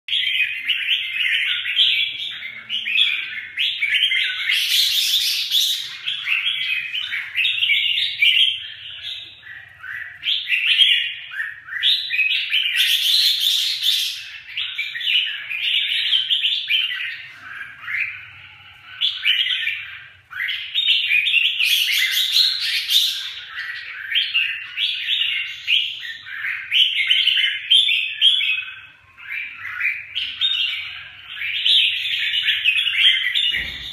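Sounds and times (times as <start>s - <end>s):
bulbuls singing: 0.1s - 33.9s.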